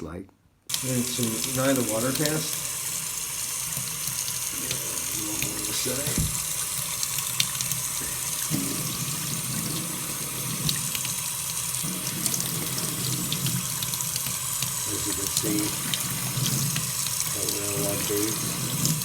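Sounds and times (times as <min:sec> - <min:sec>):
tap water splashing on shoe: 0:03.7 - 0:19.0.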